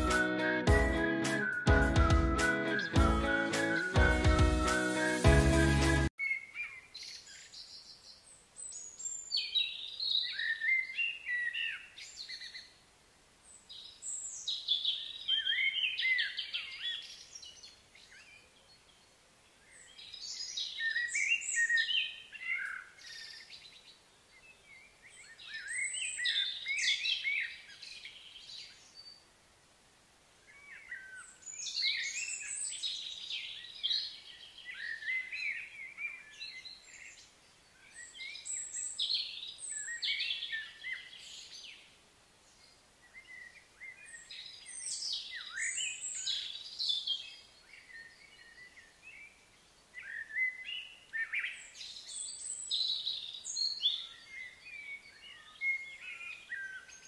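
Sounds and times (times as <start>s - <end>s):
faint outdoor background: 0.0s - 57.0s
songbird singing: 0.0s - 57.0s.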